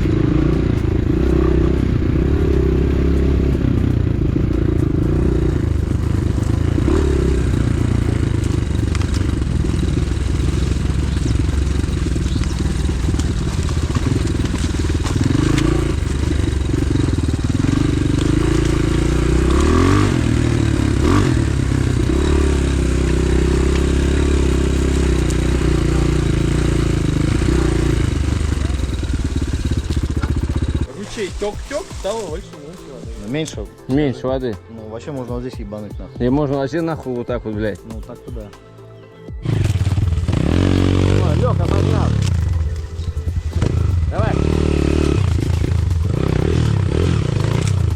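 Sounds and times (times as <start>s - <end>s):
engine revving: 0.0s - 33.9s, 39.4s - 47.9s
pit bike engine running: 0.0s - 34.6s, 39.3s - 47.9s.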